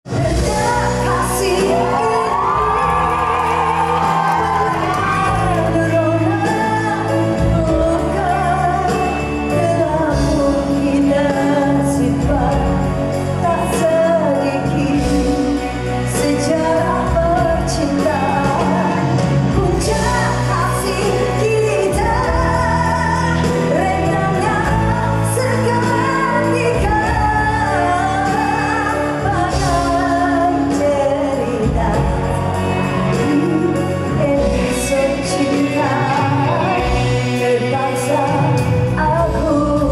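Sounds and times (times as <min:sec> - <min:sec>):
band accompaniment: 0:00.0 - 0:39.9
woman singing into microphone: 0:00.0 - 0:39.9.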